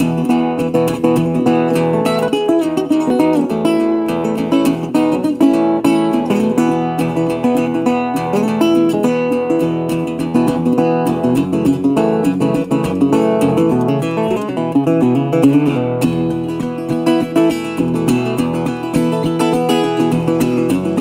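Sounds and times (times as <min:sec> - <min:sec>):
acoustic guitar plucked notes: 0:00.0 - 0:21.0.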